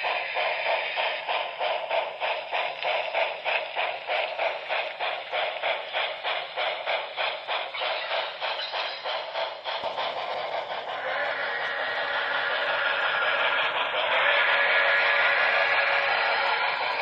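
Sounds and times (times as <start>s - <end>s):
recorded steam locomotive chuffing: 0.0s - 17.0s.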